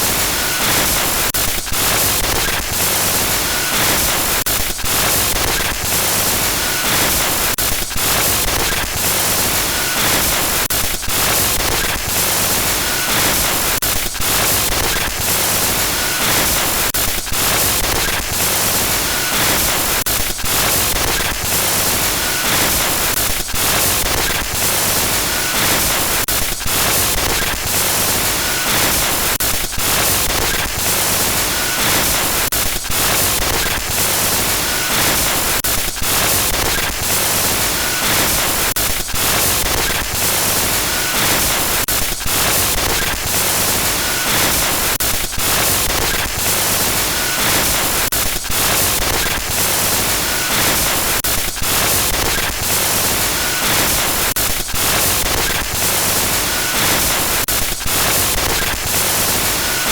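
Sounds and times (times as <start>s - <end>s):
harsh stuttering static hiss: 0.0s - 59.9s.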